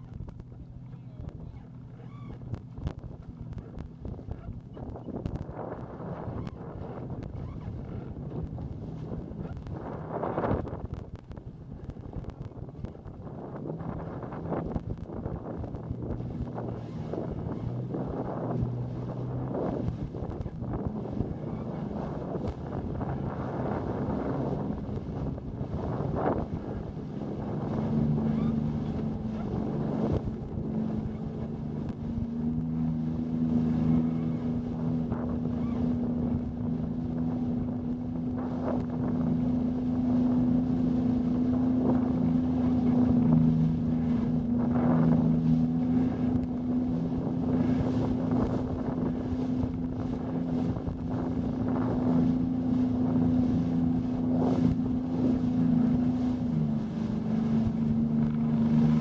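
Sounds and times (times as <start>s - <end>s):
motorboat engine running: 0.0s - 59.0s
wind buffeting microphone: 0.0s - 59.0s.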